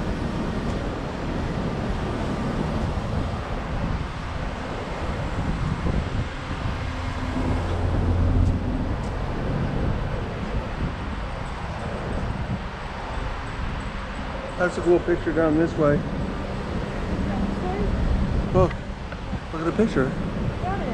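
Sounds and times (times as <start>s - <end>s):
street traffic: 0.0s - 20.9s
vehicle engine hum: 0.0s - 20.9s
wind buffeting microphone: 0.0s - 20.9s.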